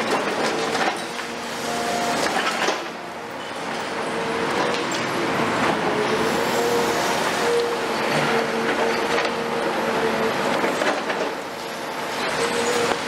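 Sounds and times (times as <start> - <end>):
excavator running: 0.0 - 13.0.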